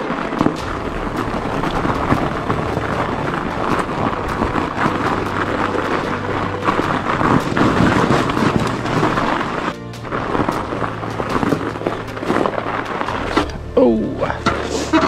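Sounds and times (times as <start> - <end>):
bike crunching over snow: 0.0 - 15.0.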